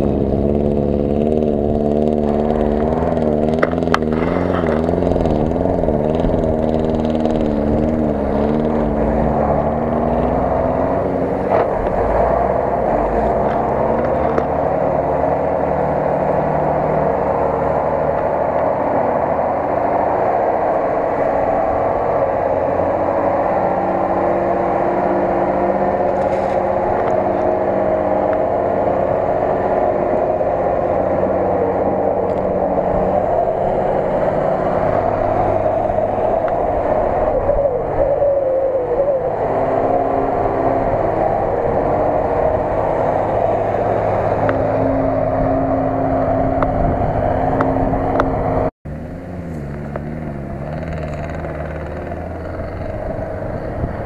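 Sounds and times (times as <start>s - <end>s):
truck engine under load: 0.0s - 54.0s.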